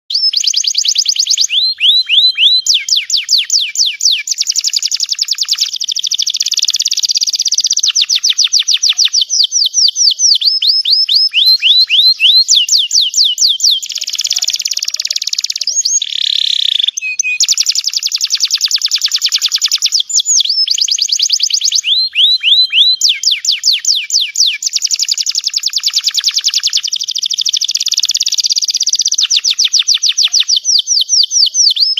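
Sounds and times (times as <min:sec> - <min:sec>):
canary singing trills: 0:00.1 - 0:31.9.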